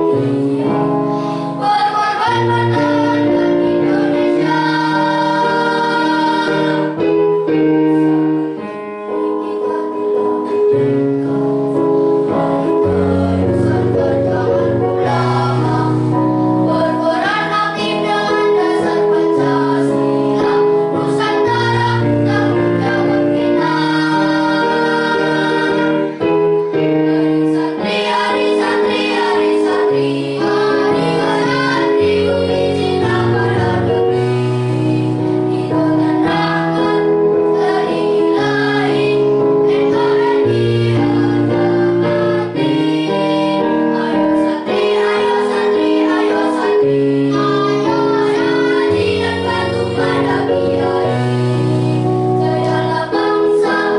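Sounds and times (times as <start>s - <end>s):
children's choir singing: 0.0s - 53.9s
instrumental accompaniment: 0.0s - 53.9s.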